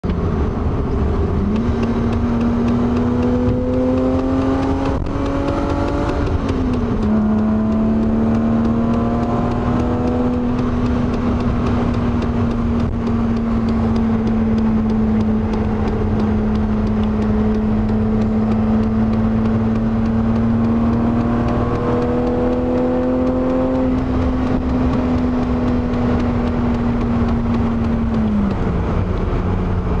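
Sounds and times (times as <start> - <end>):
car engine running under load: 0.0 - 30.0.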